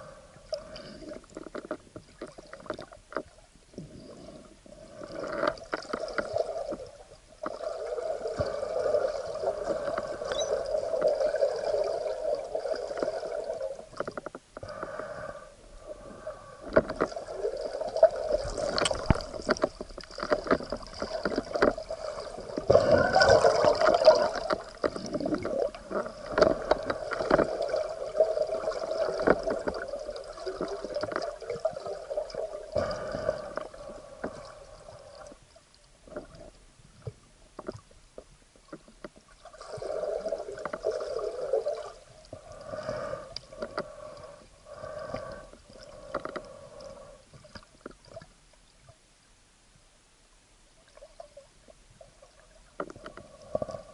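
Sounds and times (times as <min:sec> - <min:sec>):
water gurgling: 0:00.0 - 0:48.9
muffled underwater droning hum: 0:00.0 - 0:53.9.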